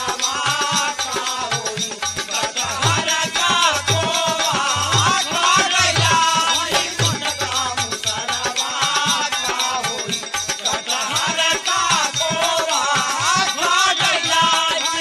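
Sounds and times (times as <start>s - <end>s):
jingling rattling percussion: 0.0s - 15.0s.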